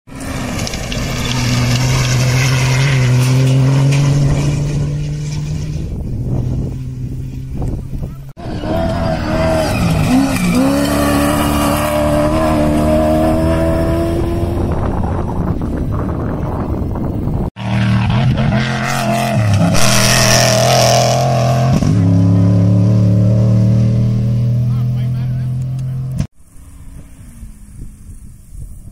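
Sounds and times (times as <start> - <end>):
rally car engines running hard: 0.5 - 28.9.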